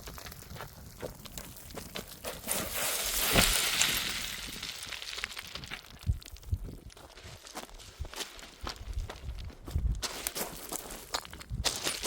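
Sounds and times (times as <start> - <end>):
footsteps crunching on rough ground: 0.0 - 12.0.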